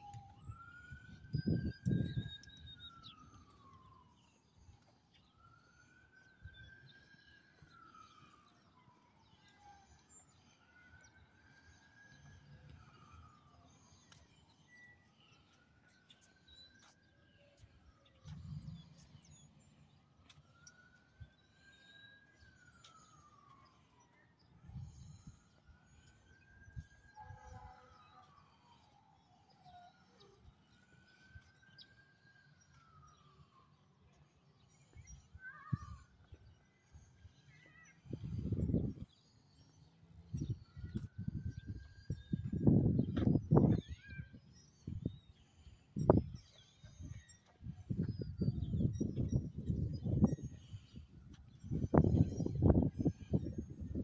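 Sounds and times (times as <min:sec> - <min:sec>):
faint siren wailing: 0:00.0 - 0:54.0.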